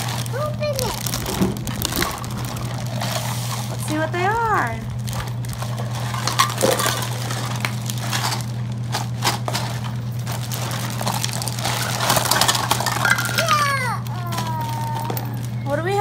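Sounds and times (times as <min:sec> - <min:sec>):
plastic toys clattering on wooden floor: 0:00.0 - 0:15.6
plastic bag crinkling: 0:00.0 - 0:16.0.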